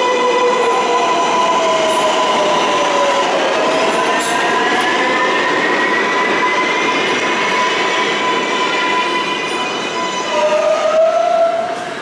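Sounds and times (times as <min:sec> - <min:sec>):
subway train pulling away: 0:00.0 - 0:12.0.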